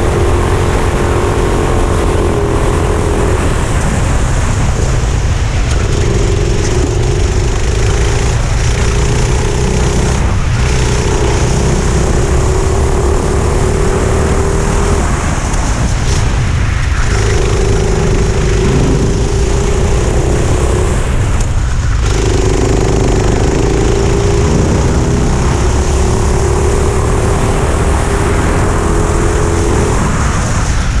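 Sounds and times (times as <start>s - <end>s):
kart engine at speed: 0.0s - 31.0s
low rumble of wind and track: 0.0s - 31.0s.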